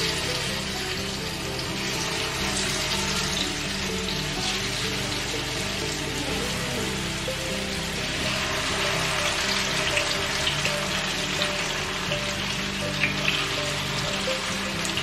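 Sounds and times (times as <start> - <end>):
chicken sizzling in hot oil: 0.0 - 15.0
oil popping: 0.0 - 15.0.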